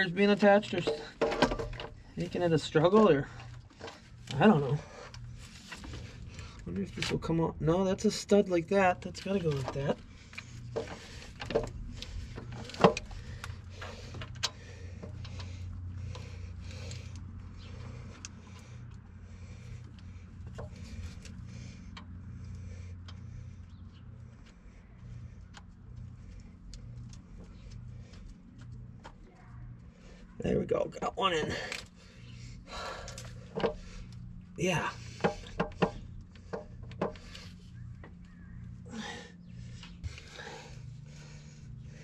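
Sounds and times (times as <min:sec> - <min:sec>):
low pulsing machine hum: 0:00.0 - 0:42.0.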